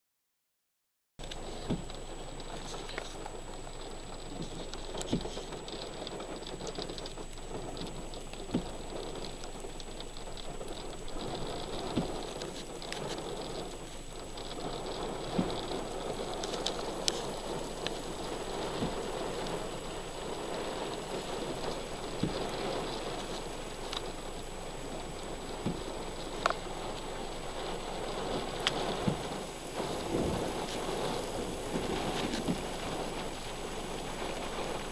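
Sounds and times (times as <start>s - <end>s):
heavy rain on wet asphalt: 1.2s - 34.9s.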